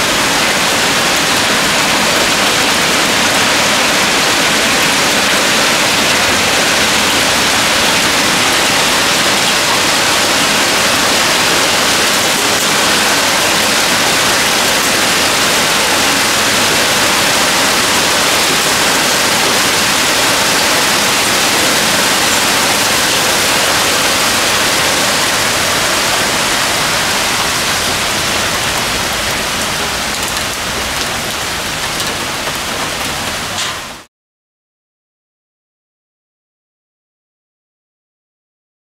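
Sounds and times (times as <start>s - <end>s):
heavy rain downpour: 0.0s - 34.1s.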